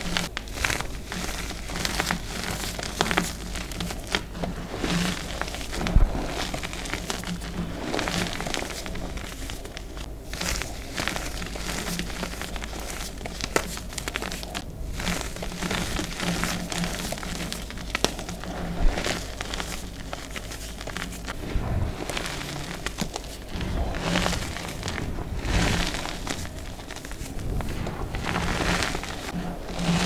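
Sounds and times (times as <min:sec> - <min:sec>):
hands crumbling chalk: 0:00.0 - 0:30.0.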